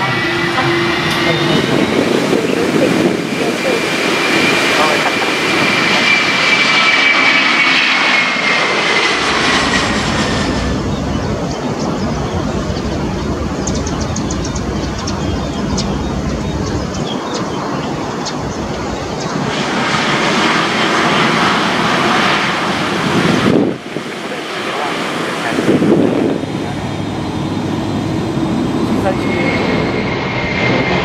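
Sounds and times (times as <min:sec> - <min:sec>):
deep engine rumble: 0:00.0 - 0:31.0
jet engine high whine: 0:00.0 - 0:31.0
rushing noise: 0:00.0 - 0:31.0.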